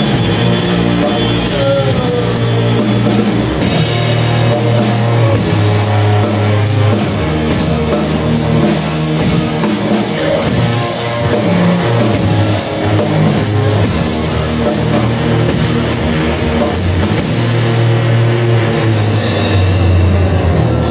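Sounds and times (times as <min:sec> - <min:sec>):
rock band playing: 0:00.0 - 0:20.9.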